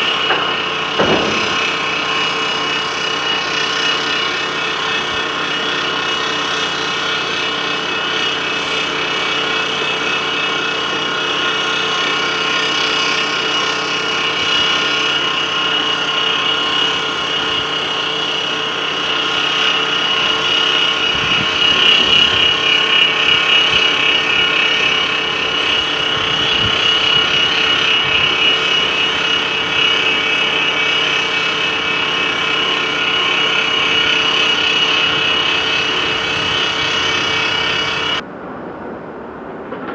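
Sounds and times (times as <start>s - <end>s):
diesel engine of heavy machinery: 0.0s - 39.9s
high steady whine: 0.0s - 39.9s.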